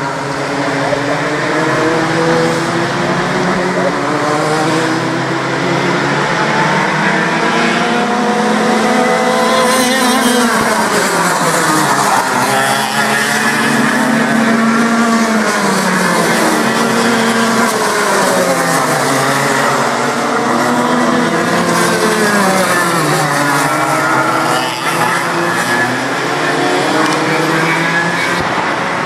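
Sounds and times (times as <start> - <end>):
go-kart engines racing: 0.0 - 29.0.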